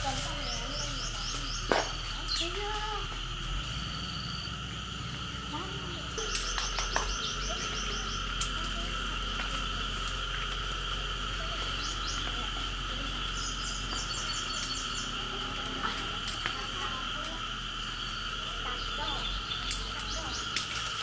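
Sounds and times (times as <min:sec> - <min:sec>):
chorus of calling animals: 0:00.0 - 0:21.0
rapid chirps: 0:00.0 - 0:21.0.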